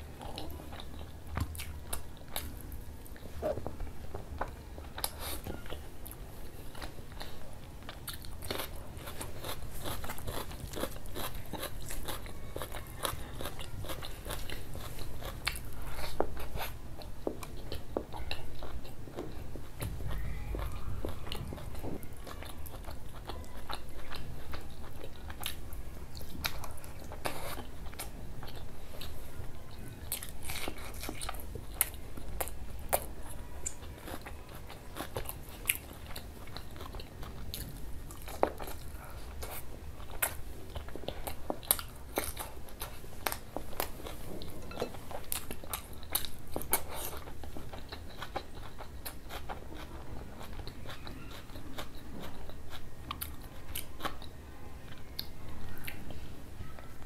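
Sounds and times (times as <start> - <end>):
person chewing and biting food: 4.4 - 29.2, 30.1 - 54.3.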